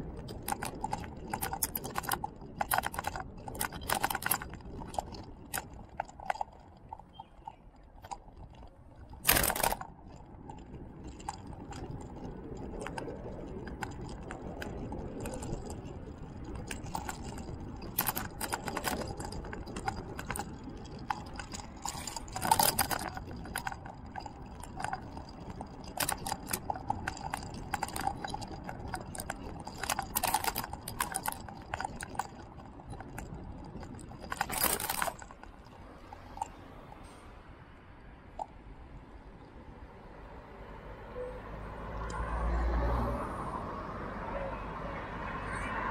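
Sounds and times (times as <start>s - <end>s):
bike rattling and clicking: 0.0s - 37.2s, 41.8s - 45.9s
wind and road rumble: 0.0s - 45.9s.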